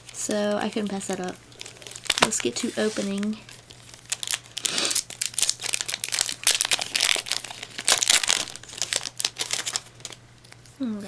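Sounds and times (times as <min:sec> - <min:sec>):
foil wrapper crinkling: 0:00.0 - 0:10.7.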